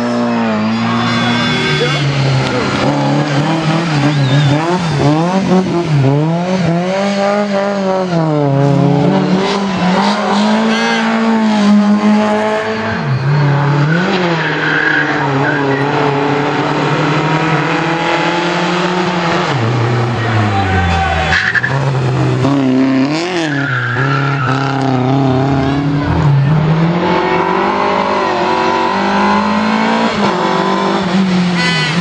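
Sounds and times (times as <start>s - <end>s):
rally car engines revving: 0.0s - 32.0s.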